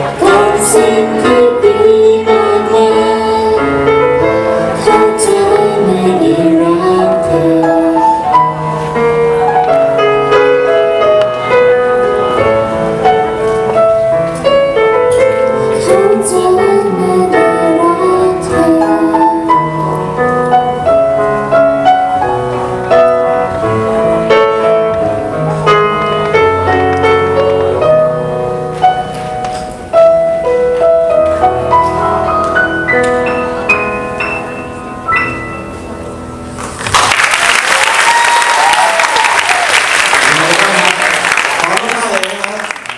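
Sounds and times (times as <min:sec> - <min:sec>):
piano chords: 0:00.0 - 0:42.9.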